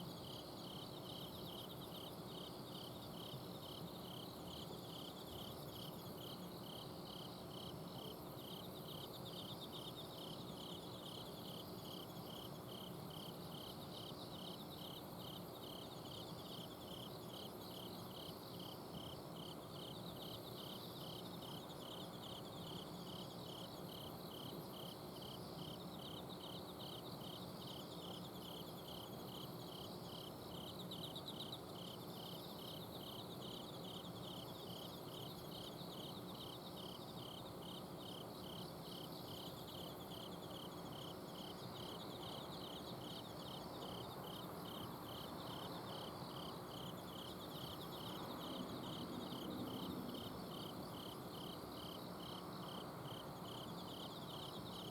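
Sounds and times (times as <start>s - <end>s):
crickets chirping: 0.0s - 54.9s
high insect trills: 0.0s - 54.9s.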